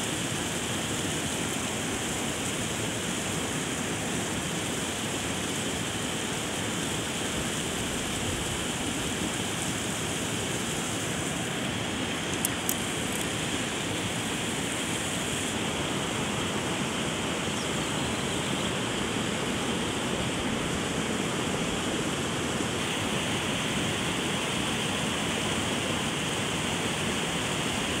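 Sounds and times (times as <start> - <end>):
flowing river water: 0.0 - 28.0.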